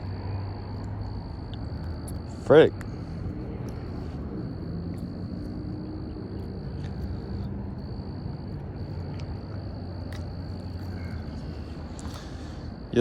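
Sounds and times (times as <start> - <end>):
high-pitched insect trill: 0.0 - 13.0
low steady drone: 0.0 - 13.0.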